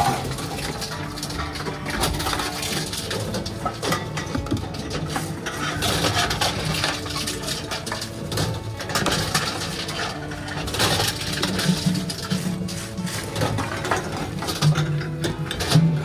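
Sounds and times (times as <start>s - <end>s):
cans clattering and clicking: 0.0s - 16.0s.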